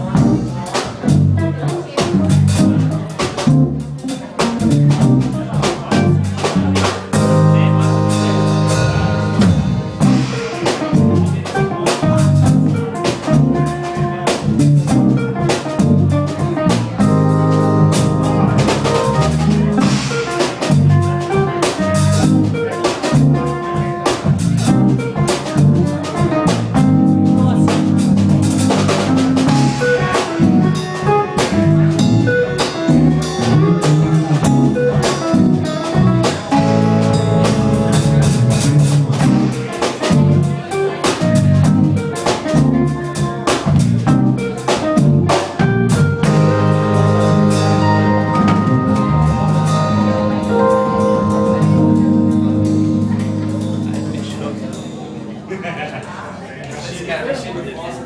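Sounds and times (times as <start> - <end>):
drum kit steady beat: 0.0 - 55.7
band music: 0.0 - 57.9.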